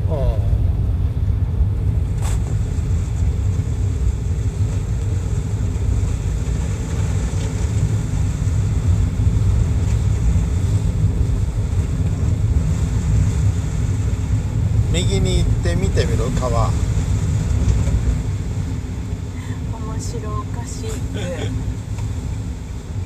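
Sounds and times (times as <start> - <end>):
car engine rumble: 0.0 - 23.0
road noise inside car: 0.0 - 23.0.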